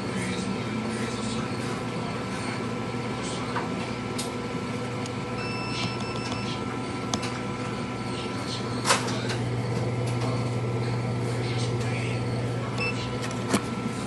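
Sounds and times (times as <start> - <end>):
machine electrical hum: 0.0 - 14.0.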